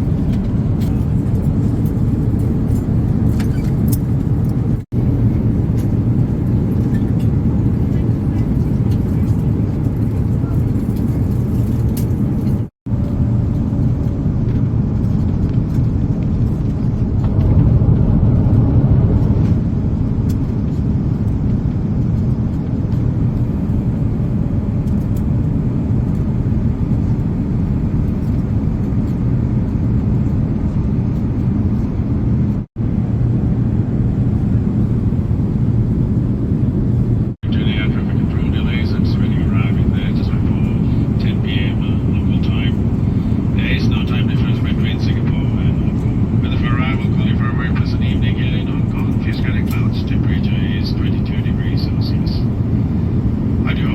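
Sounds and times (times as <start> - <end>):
airplane cabin rumble: 0.0 - 53.9.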